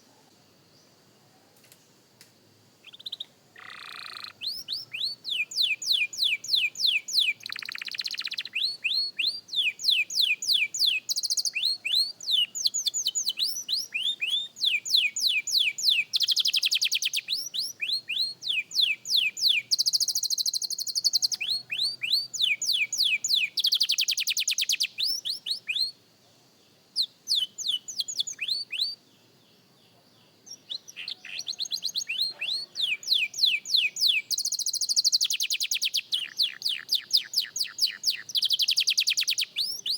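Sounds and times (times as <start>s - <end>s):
canary singing: 2.8s - 26.0s, 27.0s - 29.0s, 30.4s - 39.9s.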